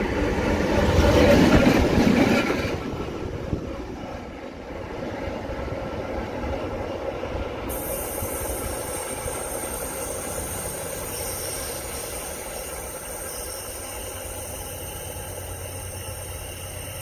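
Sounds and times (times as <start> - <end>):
diesel locomotive engine: 0.0 - 17.0
wheels rumbling on rails: 0.0 - 17.0.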